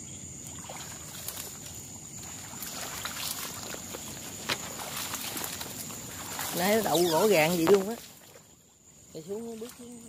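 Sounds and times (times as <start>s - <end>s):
high-pitched insect trill: 0.0s - 10.0s
reeds and grass rustling: 0.4s - 10.0s.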